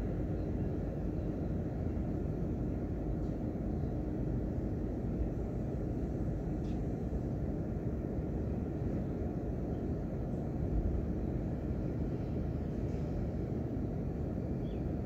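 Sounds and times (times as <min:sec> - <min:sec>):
steady low rumbling noise: 0:00.0 - 0:15.0.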